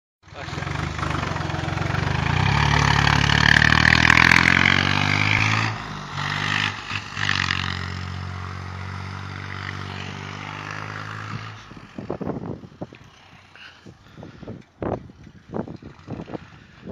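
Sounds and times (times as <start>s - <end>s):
tractor diesel engine running: 0.3s - 16.9s.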